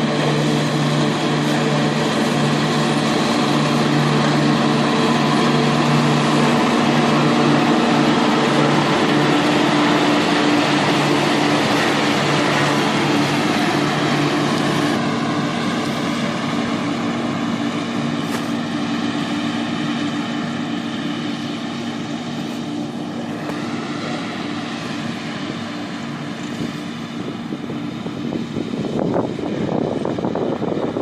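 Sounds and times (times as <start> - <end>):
mower mechanical rush: 0.0 - 31.0
tractor engine running: 0.0 - 31.0.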